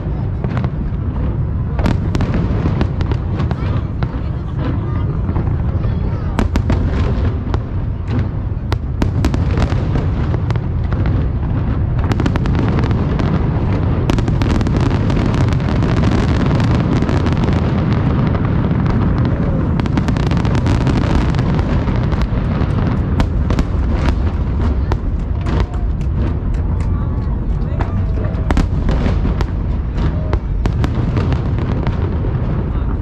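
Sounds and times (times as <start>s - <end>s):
fireworks booming: 0.0s - 33.0s
fireworks cracking and popping: 0.0s - 33.0s.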